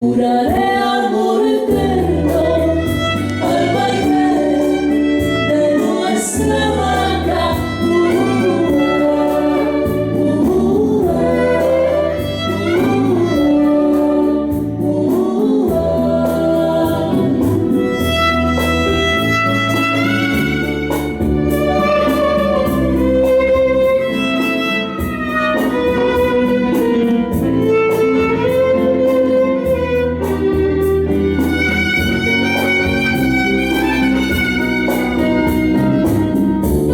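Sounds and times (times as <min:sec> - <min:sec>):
violin melody: 0:02.0 - 0:14.8, 0:17.6 - 0:36.9
bass line: 0:06.4 - 0:36.9.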